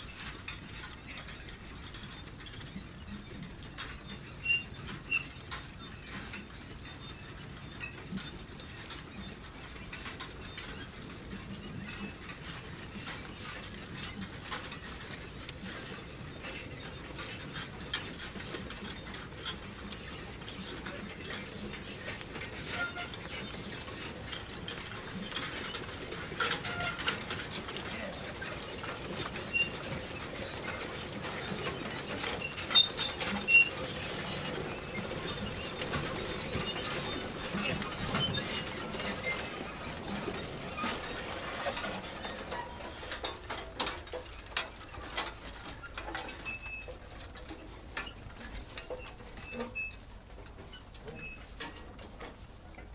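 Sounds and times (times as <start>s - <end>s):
manure spreader clattering: 9.6s - 52.9s.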